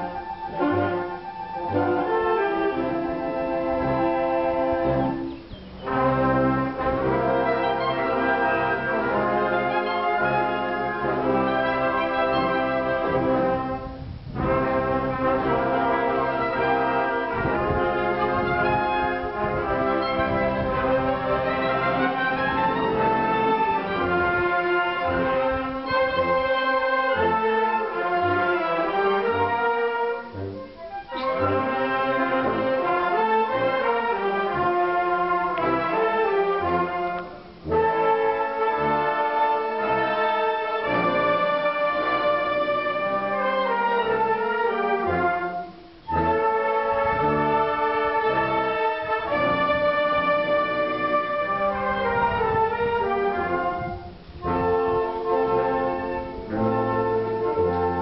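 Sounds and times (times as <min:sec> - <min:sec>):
wind band playing: 0:00.0 - 0:58.0.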